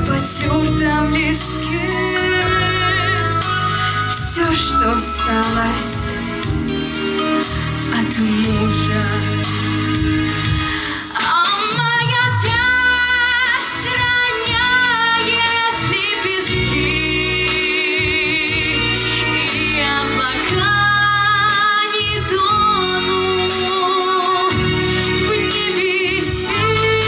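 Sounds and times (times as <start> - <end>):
instrumental backing track: 0.0 - 27.0.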